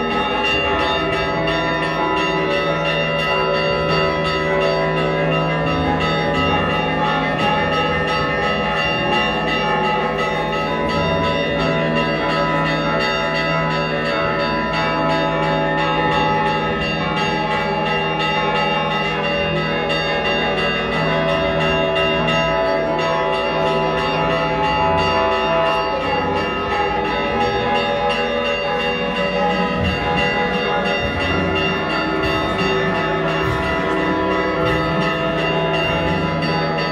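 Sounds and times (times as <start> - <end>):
church bells ringing: 0.0 - 36.9.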